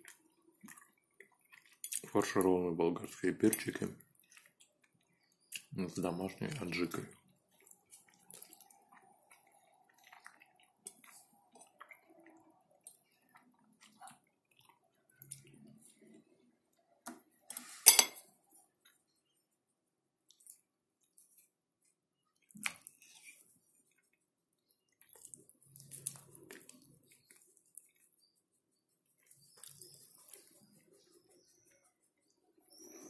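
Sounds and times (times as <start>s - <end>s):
wet eating sounds: 0.0s - 19.2s, 20.2s - 33.0s.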